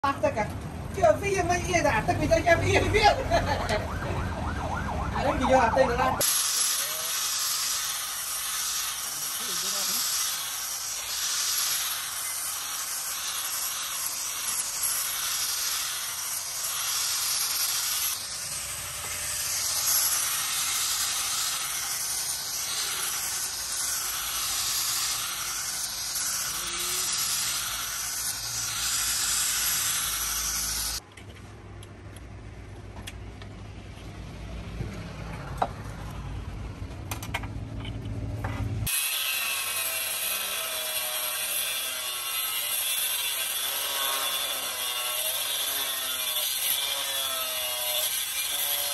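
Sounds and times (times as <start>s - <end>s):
angle grinder grinding steel: 1.5s - 31.0s, 38.8s - 48.9s.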